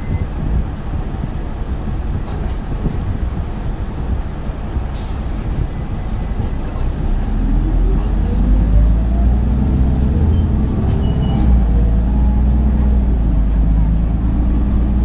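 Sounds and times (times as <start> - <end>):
bus accelerating whine: 0.0 - 15.0
bus engine rumbling: 0.0 - 15.0.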